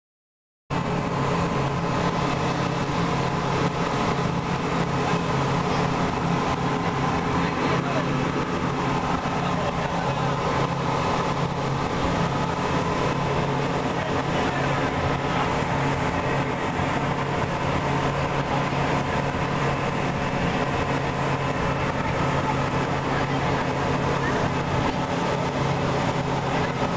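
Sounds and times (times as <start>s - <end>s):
speedboat engines droning: 0.7s - 26.9s.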